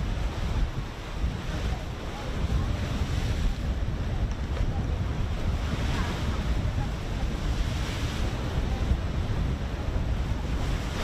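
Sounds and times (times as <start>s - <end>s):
sea washing: 0.0s - 11.0s
wind buffeting microphone: 0.0s - 11.0s.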